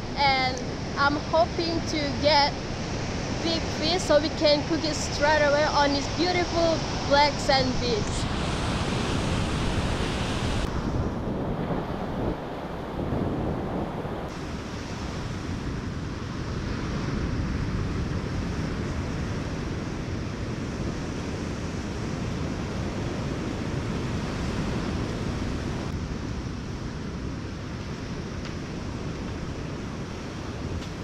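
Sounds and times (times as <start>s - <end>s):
ocean surf washing onto beach: 0.0s - 31.0s
wind on microphone: 0.0s - 31.0s.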